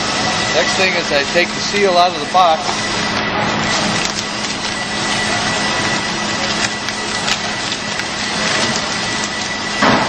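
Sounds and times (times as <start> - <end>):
faint high whine: 0.0 - 10.0
low hum: 0.0 - 10.0.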